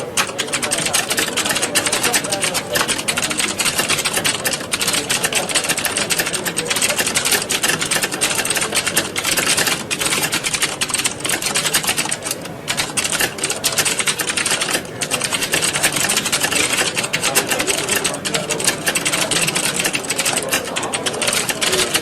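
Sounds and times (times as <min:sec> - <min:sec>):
keyboards clattering: 0:00.0 - 0:22.0.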